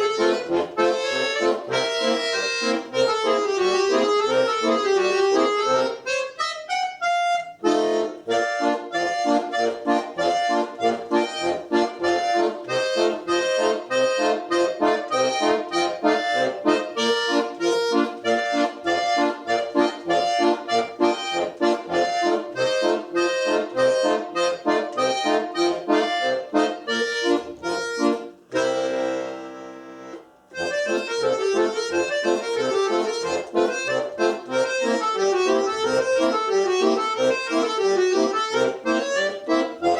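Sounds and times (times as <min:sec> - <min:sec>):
accordion playing folk dance tune: 0:00.0 - 0:39.9.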